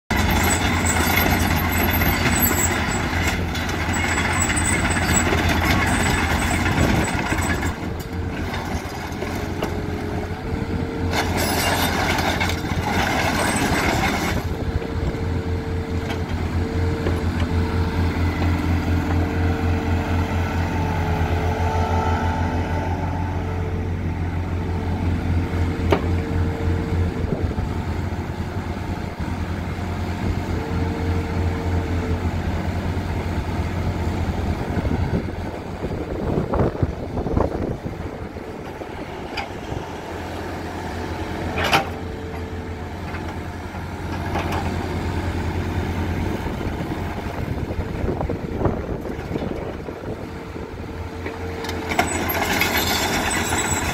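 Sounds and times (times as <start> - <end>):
excavator diesel engine running: 0.1 - 53.9.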